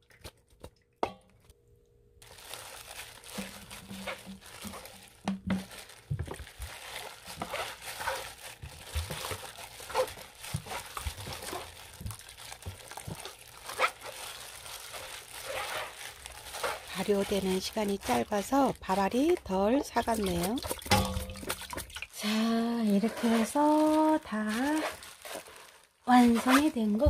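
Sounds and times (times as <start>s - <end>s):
plastic glove crinkling: 2.2s - 27.0s
wet mash squishing: 2.2s - 27.0s.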